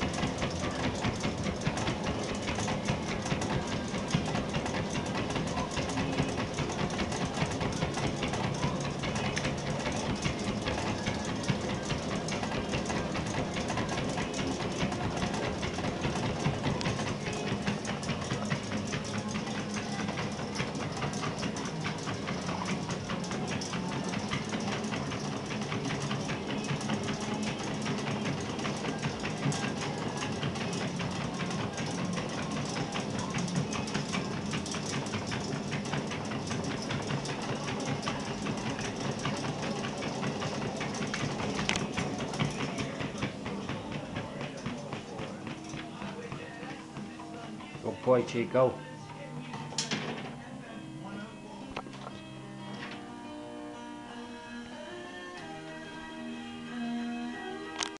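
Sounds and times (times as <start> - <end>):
dog paws clattering on treadmill: 0.0 - 53.4, 57.6 - 57.9
treadmill mechanical whir: 0.0 - 57.9.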